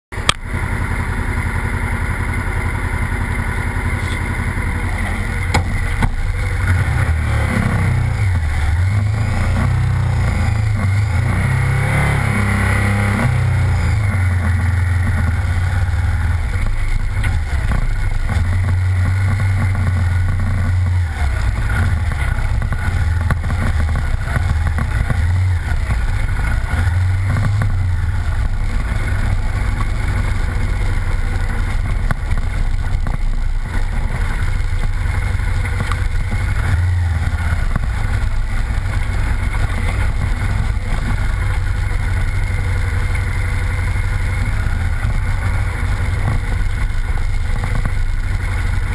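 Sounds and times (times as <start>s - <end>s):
off-road vehicle engine droning: 0.1s - 48.9s
tyre noise: 3.8s - 48.9s.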